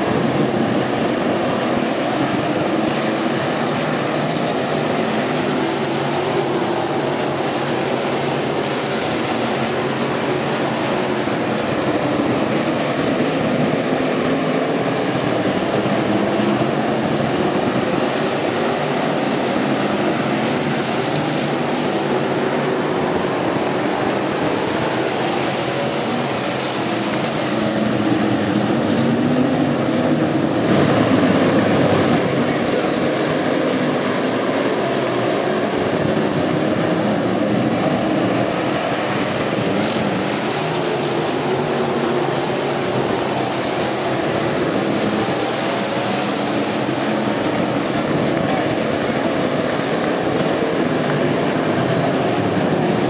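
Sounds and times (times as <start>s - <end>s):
stock car engines racing: 0.0s - 53.0s.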